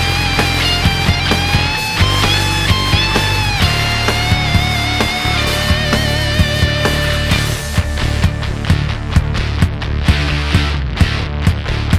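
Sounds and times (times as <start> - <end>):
rock music with drum beat: 0.0 - 11.9.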